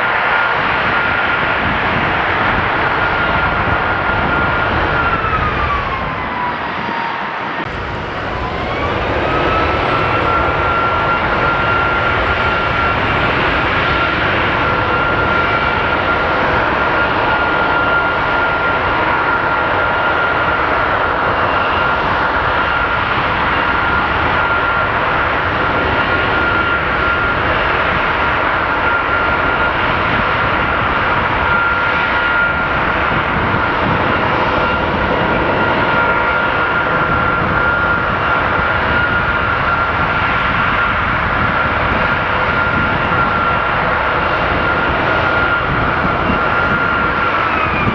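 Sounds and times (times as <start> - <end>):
jet engine high whine: 0.0 - 47.9
jet engine roar: 0.0 - 47.9.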